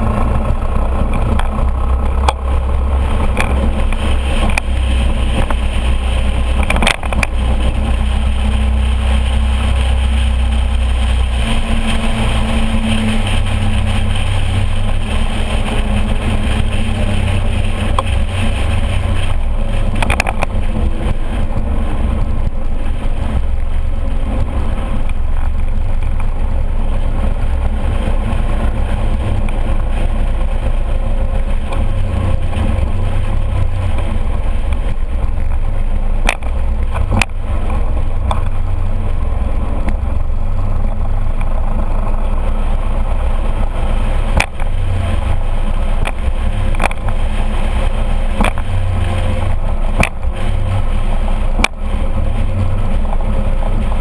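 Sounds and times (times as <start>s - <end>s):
road noise: 0.0s - 54.0s
scooter engine drone: 0.0s - 54.0s
wind noise: 0.0s - 54.0s.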